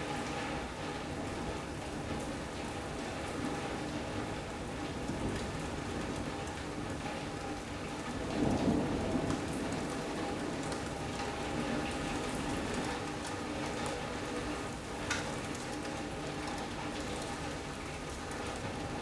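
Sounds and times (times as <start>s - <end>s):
heavy rain on a roof: 0.0s - 19.0s.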